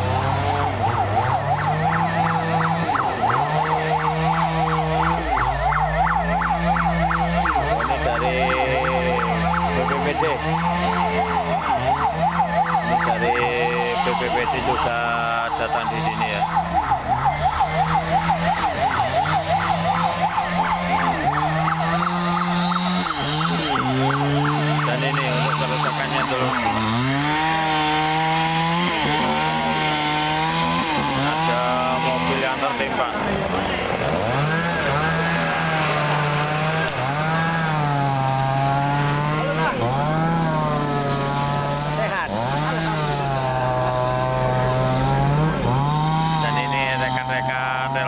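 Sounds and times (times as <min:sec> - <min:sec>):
emergency siren yelping: 0:00.0 - 0:46.8
chainsaw cutting wood: 0:00.0 - 0:48.0.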